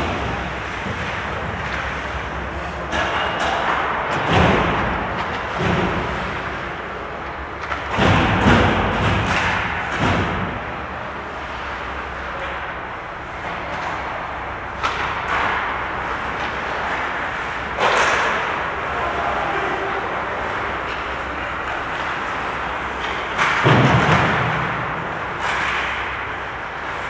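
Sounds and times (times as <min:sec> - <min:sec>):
skates and sticks on ice: 0:00.0 - 0:27.0.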